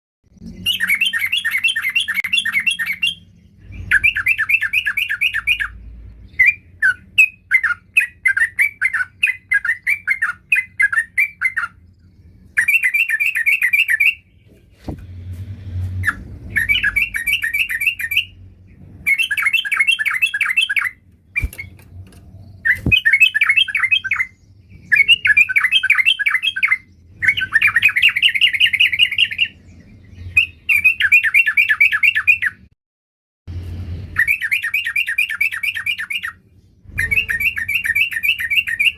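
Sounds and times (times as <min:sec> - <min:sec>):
bulbul singing: 0:00.3 - 0:14.9, 0:16.0 - 0:32.7, 0:34.1 - 0:38.9.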